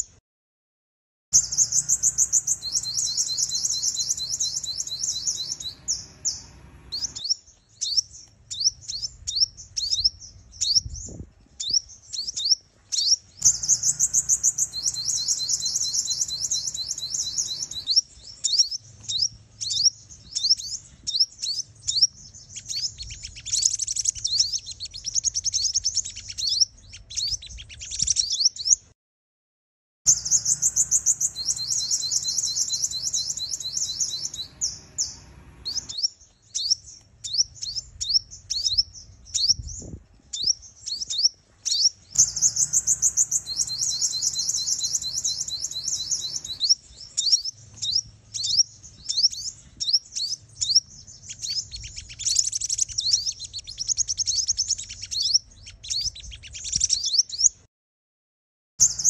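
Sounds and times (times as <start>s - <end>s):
high twittering bird trills: 1.4s - 28.9s, 30.1s - 57.7s, 58.8s - 59.0s
sharp bird chirps: 1.4s - 28.9s, 30.1s - 57.7s, 58.8s - 59.0s.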